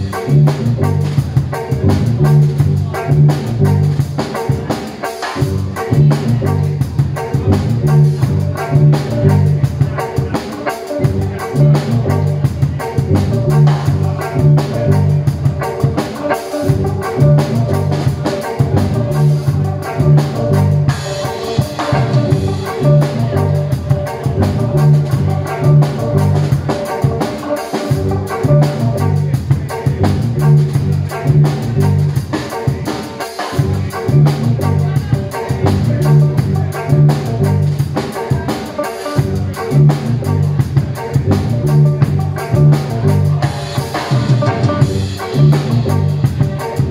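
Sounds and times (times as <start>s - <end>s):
drum and cymbal beat: 0.0s - 46.9s
electric guitar riff: 0.0s - 46.9s.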